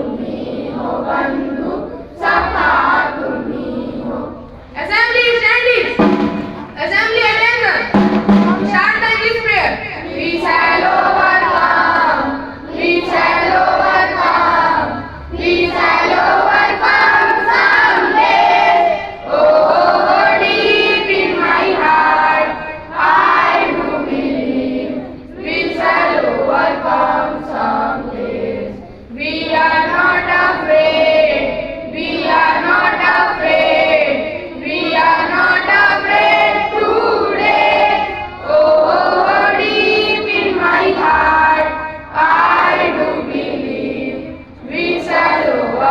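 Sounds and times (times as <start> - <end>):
children singing in unison: 0.0 - 4.7, 10.0 - 45.9.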